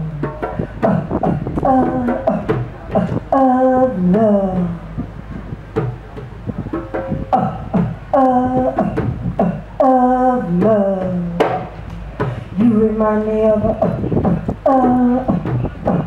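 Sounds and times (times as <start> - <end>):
woman chanting: 0.0 - 5.0, 7.2 - 11.6, 12.4 - 16.0.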